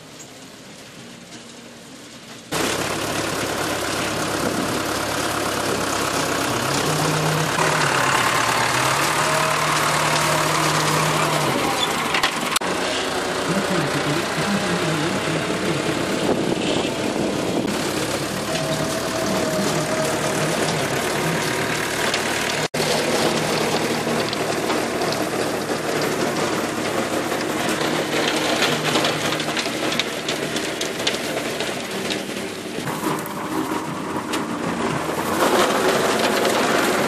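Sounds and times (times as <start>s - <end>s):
tractor diesel engine under load: 0.0s - 37.0s
rotary tiller churning soil: 2.2s - 37.0s.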